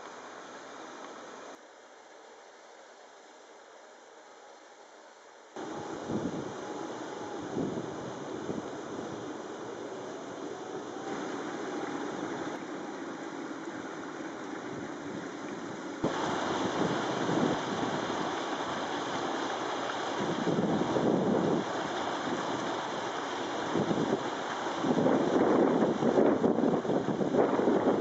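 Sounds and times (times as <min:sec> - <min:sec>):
wind blowing across microphone: 0:05.6 - 0:28.0.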